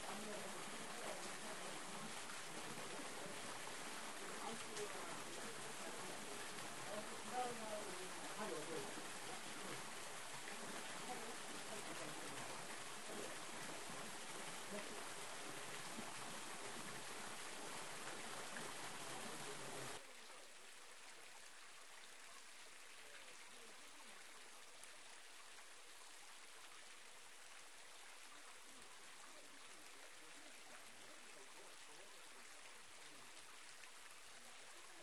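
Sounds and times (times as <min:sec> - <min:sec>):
waterfall trickling into pool: 0:00.0 - 0:35.0.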